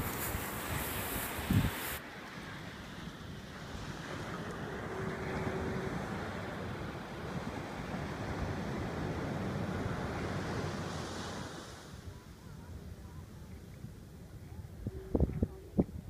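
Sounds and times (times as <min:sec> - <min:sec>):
wind on microphone: 0:00.0 - 0:02.0, 0:03.3 - 0:16.0
ocean surf: 0:00.0 - 0:15.1.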